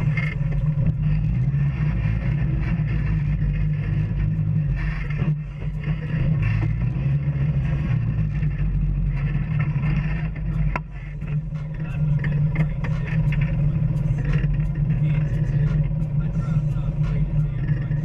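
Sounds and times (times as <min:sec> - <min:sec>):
off-road vehicle engine running: 0:00.0 - 0:18.0
rattles and knocks: 0:00.0 - 0:18.0.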